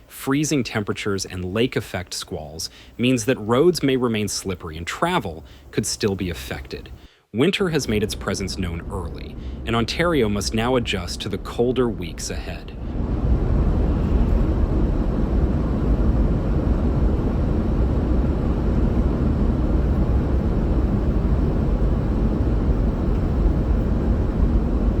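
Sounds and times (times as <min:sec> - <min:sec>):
low rumbling noise: 0:00.0 - 0:25.0.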